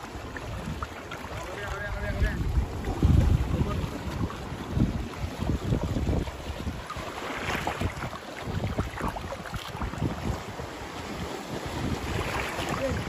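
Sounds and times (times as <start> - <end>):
sea water washing: 0.0 - 13.0
wind gusting on microphone: 0.2 - 13.0.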